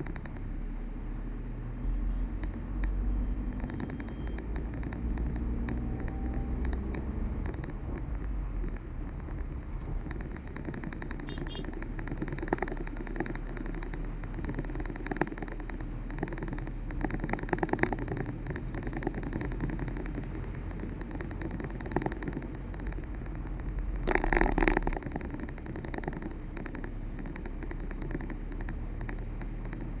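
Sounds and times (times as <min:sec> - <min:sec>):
clicks and rattles: 0:00.0 - 0:00.6, 0:02.4 - 0:30.0
vehicle road and engine noise: 0:00.0 - 0:30.0.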